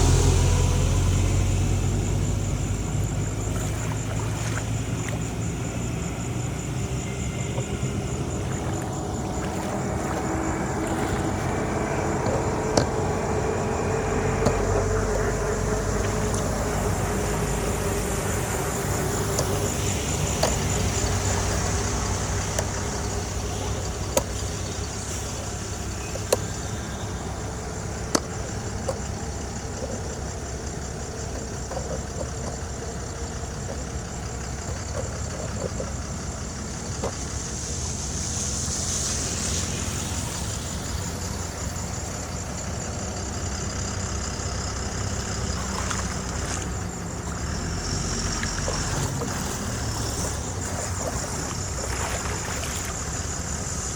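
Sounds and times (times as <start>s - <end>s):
heavy machinery engine running: 0.0s - 53.9s.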